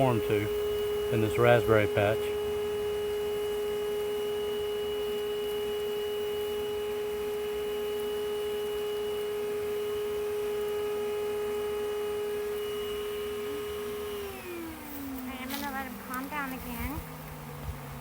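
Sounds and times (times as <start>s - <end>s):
vacuum motor humming: 0.0s - 18.0s.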